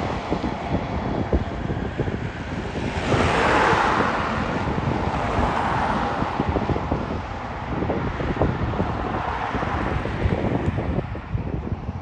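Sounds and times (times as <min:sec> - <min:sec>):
vehicle passing: 0:00.0 - 0:11.6
wind buffeting microphone: 0:00.0 - 0:12.0.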